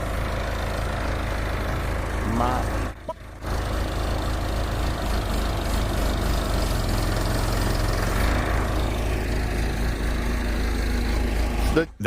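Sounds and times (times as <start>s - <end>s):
backhoe diesel engine running: 0.0s - 12.0s.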